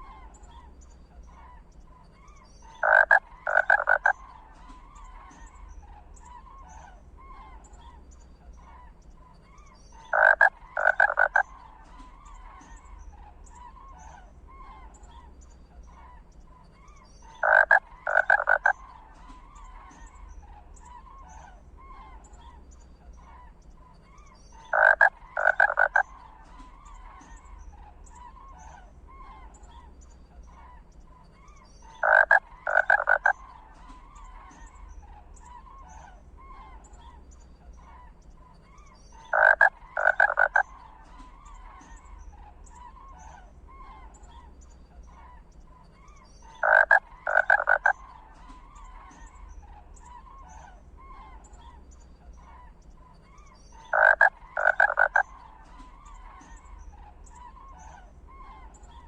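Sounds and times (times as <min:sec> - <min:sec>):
faint chorus of chirps: 0:00.0 - 0:59.0
loud two-part croaking call: 0:00.0 - 0:59.0.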